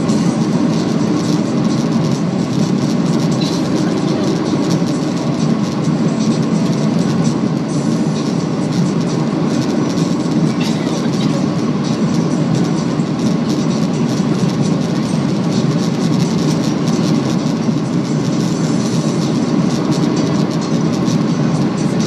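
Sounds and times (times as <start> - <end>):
airplane cabin roar: 0.0 - 22.0.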